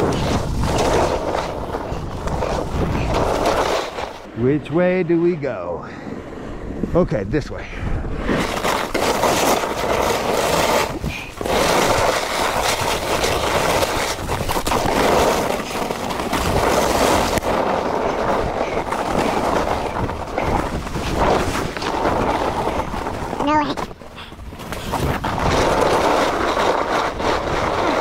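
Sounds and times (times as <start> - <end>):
snowboard scraping on snow: 0.0 - 4.4, 8.2 - 28.0.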